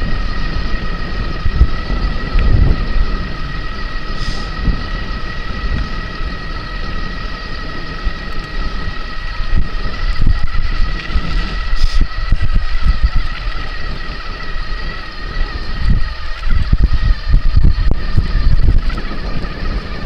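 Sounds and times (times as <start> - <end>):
electric motor whine: 0.0 - 20.0
wind buffeting microphone: 0.0 - 20.0.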